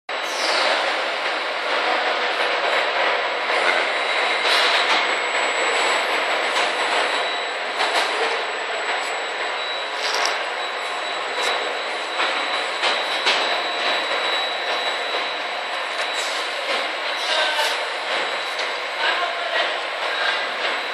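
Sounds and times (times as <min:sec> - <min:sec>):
thin high whine: 0:03.7 - 0:20.9.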